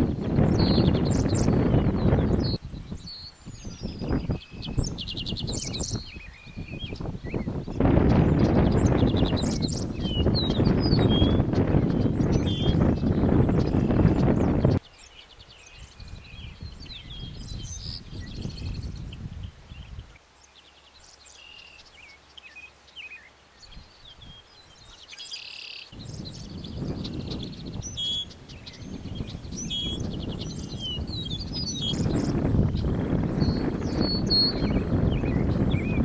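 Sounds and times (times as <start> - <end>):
wind rumble on microphone: 0.0 - 20.2, 23.6 - 25.0, 25.9 - 36.0
birds chirping and singing: 0.0 - 36.0.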